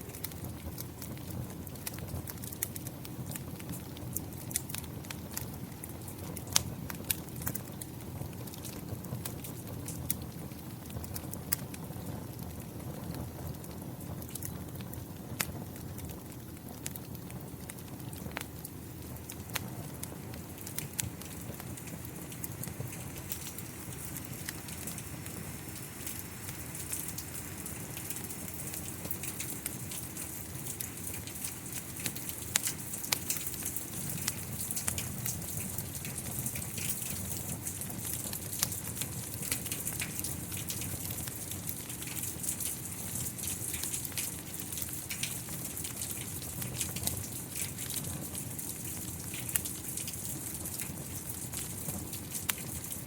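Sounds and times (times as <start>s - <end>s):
steady rain falling: 0.0s - 53.0s
wood fire crackling: 0.0s - 53.0s.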